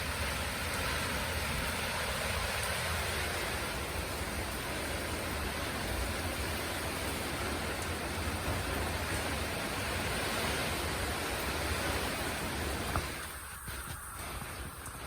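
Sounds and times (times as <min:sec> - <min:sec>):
heavy rain and strong wind: 0:00.0 - 0:15.0.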